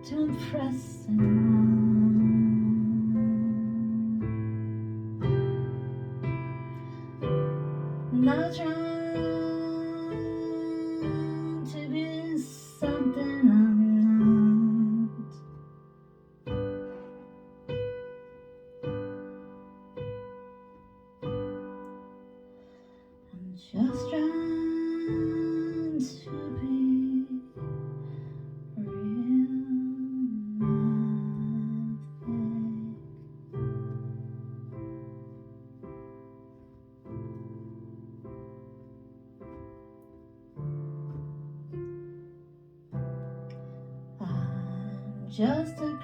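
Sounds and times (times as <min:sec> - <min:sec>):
piano chords ringing: 0:00.0 - 0:46.0.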